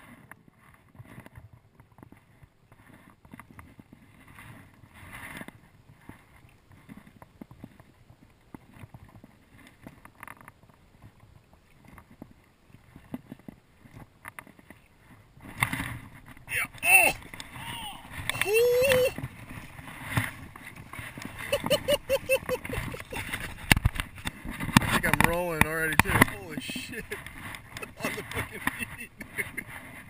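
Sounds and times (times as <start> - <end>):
river water sloshing and splashing: 2.7 - 30.0.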